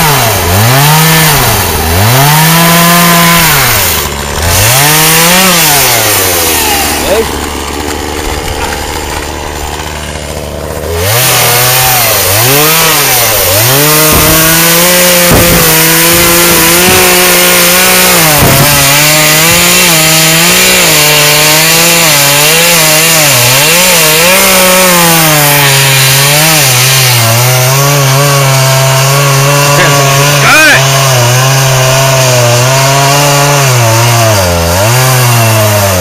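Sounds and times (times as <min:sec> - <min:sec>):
chainsaw cutting log: 0:00.0 - 0:36.0.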